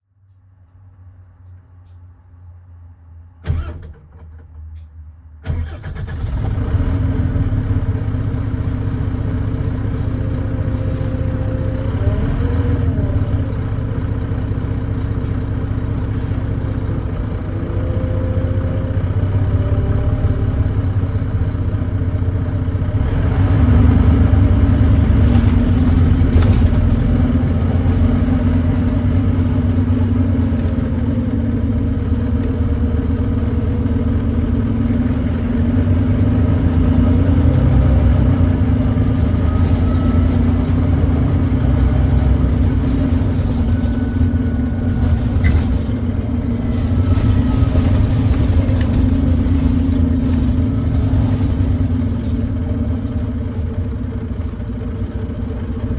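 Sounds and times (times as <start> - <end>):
diesel bus engine running: 0.1 - 55.9.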